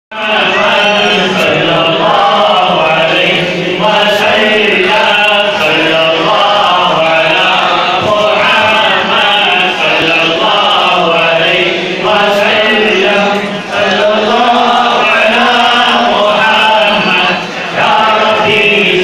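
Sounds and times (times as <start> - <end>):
men chanting together: 0.1 - 19.0.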